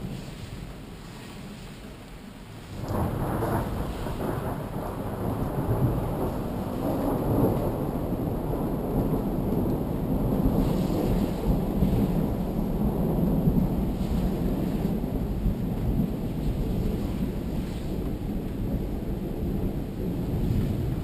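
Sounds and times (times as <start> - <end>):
falling rain: 0.0 - 21.0
thunder rumbling: 0.0 - 21.0.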